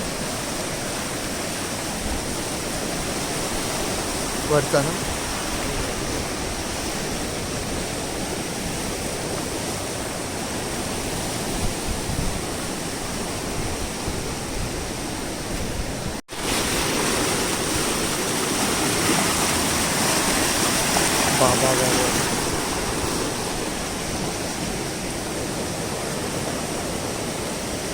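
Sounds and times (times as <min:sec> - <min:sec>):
stream rushing: 0:00.0 - 0:27.9.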